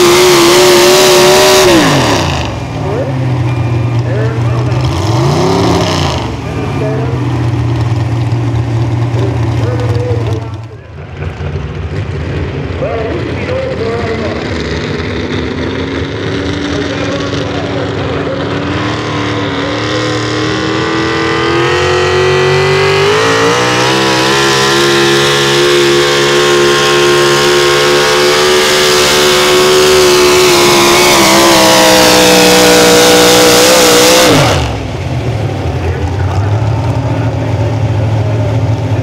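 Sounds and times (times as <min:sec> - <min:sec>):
tires spinning: 0:00.0 - 0:39.0
truck engine at full throttle: 0:00.0 - 0:39.0.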